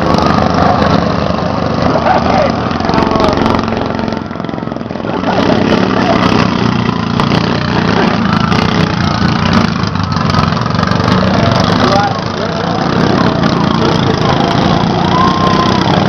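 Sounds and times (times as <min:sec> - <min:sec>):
lawn mower engines running: 0:00.0 - 0:16.0.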